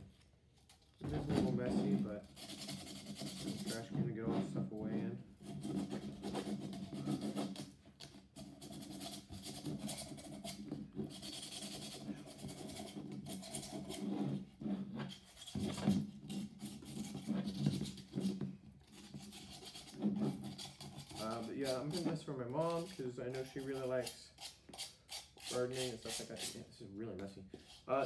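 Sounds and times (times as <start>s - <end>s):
sanding plastic: 1.3s - 4.6s, 5.4s - 26.7s.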